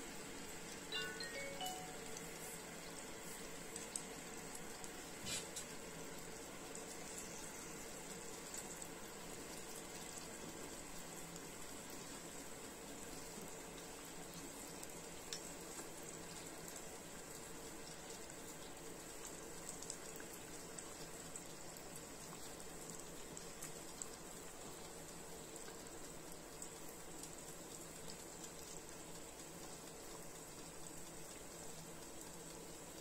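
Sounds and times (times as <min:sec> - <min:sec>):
buns sizzling in oil: 0:00.0 - 0:33.0.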